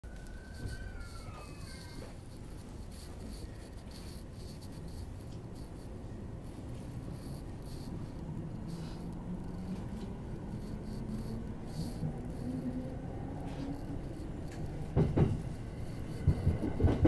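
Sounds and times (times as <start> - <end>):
electric train low rumble: 0.0 - 17.0.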